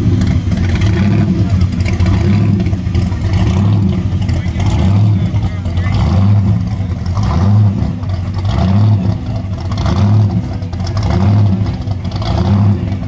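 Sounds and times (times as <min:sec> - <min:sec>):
pickup truck engine pulling away: 0:00.0 - 0:13.0.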